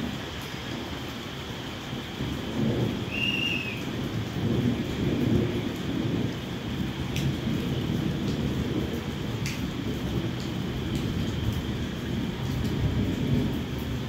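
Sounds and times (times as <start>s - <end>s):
heavy rain: 0.0s - 14.0s
low rolling thunder: 0.0s - 14.0s.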